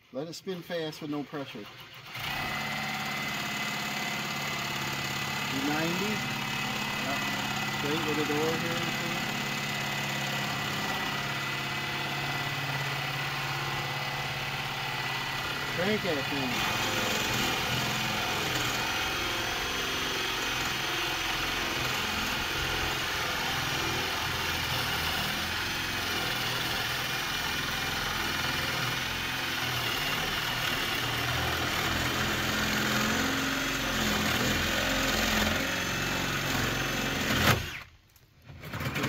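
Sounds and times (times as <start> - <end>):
power drill boring into wood: 0.7 - 38.0, 38.6 - 39.0.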